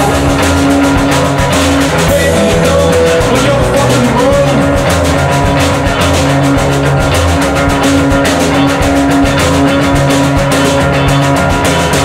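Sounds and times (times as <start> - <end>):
rock song instrumental: 0.0 - 12.0
steady drum beat: 0.0 - 12.0.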